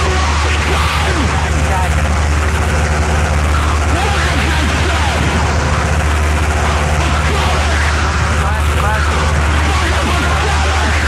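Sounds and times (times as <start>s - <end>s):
harsh noise wall: 0.0s - 11.0s
loud steady low hum: 0.0s - 11.0s.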